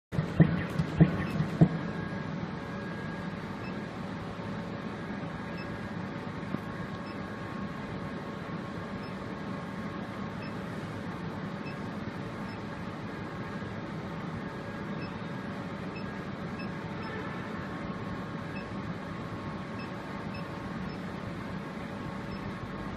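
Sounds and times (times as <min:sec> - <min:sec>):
machine hum with faint whine: 0:00.1 - 0:22.9.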